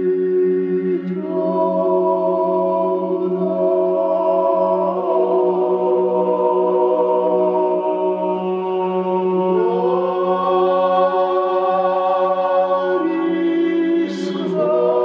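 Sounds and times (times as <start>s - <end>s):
droning chant-like music: 0.0s - 15.0s.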